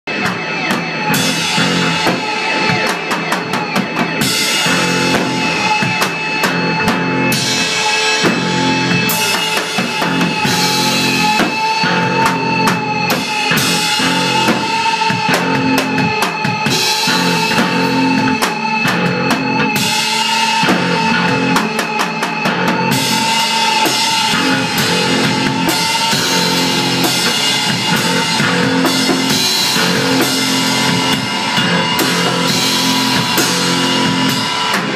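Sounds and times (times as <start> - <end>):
drum kit pounding: 0.0 - 34.9
rock band playing loud noise: 0.0 - 34.9
wavering high tone: 0.3 - 34.9.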